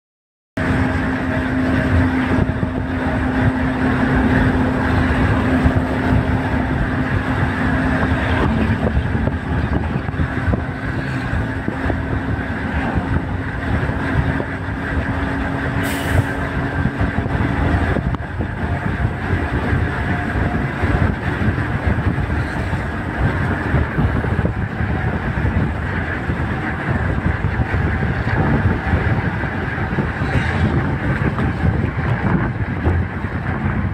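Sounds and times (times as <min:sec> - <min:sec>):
low hum: 0:00.6 - 0:33.9
vehicle road noise: 0:00.6 - 0:33.9.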